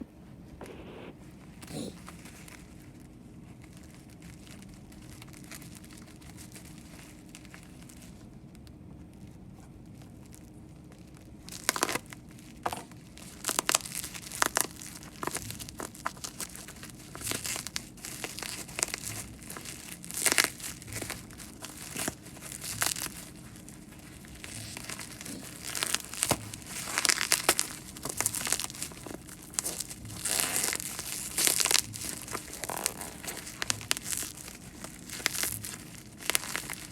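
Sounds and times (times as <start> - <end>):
packaging crinkling and tearing: 1.6 - 36.9.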